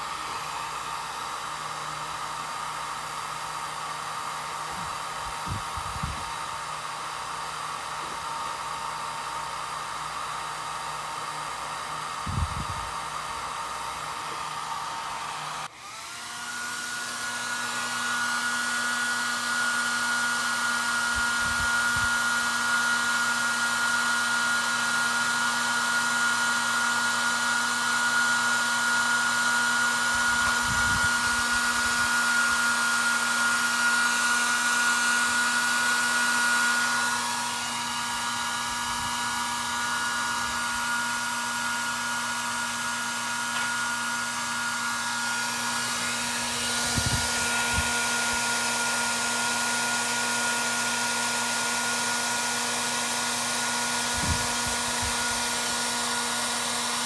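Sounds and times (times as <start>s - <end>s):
hot-air dryer whining: 0.0s - 57.0s.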